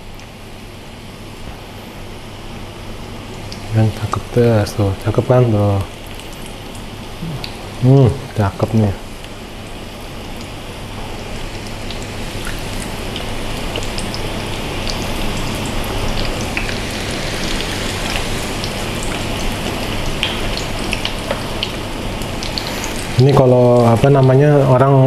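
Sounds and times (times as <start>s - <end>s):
onion rings sizzling in hot oil: 2.2s - 25.0s.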